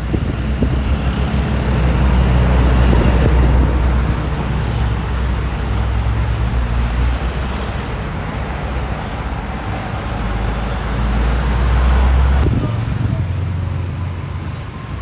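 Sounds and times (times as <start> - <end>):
heavy truck engines: 0.0 - 15.0
low engine hum: 0.0 - 15.0
tyre noise on road: 0.0 - 15.0.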